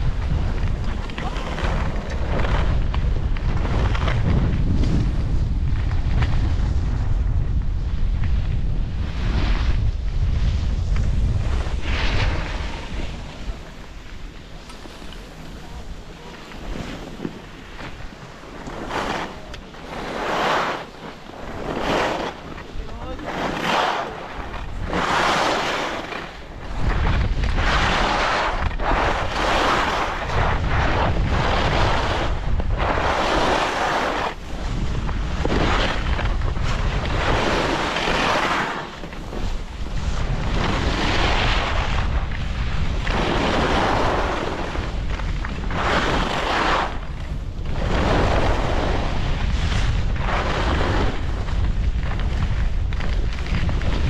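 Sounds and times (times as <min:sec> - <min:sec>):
skis scraping over snow: 0:00.0 - 0:54.0
wind buffeting microphone: 0:00.0 - 0:54.0.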